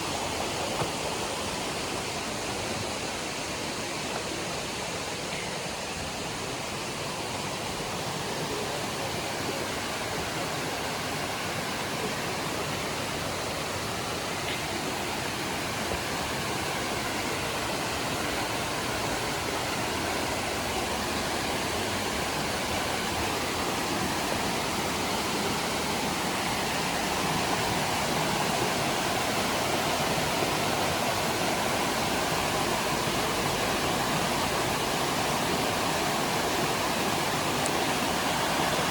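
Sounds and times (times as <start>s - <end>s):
fast-flowing mountain water: 0.0s - 38.9s.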